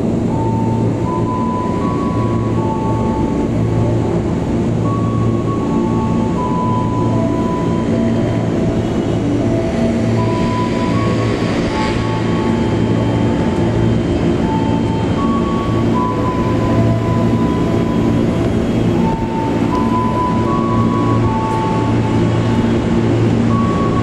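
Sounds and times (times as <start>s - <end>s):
locomotive engine droning: 0.0s - 24.0s.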